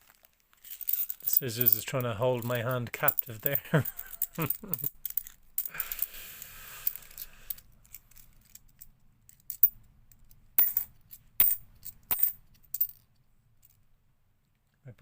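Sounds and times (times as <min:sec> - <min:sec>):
coins shuffling: 0:00.0 - 0:13.8
coins clinking: 0:00.6 - 0:13.8.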